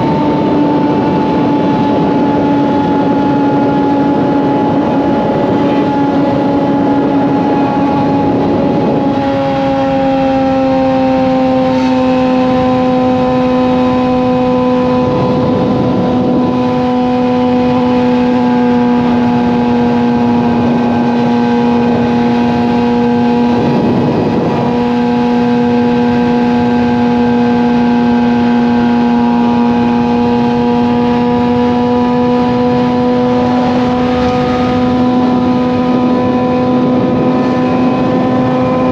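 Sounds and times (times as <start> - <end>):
motorcycle engine drone: 0.0 - 38.9
whooshes of wind or traffic: 0.0 - 38.9.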